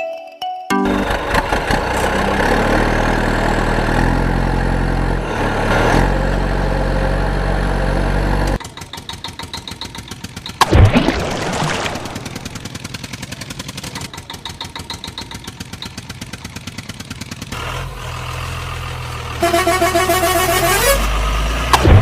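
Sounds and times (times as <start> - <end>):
vehicle engine running: 0.8 - 10.8, 11.6 - 22.0.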